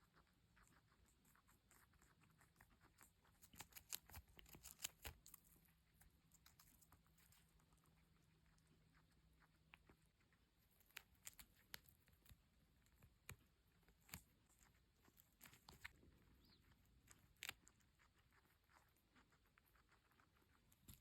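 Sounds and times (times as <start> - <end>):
guinea pig clicks and rustles: 0.0 - 21.0.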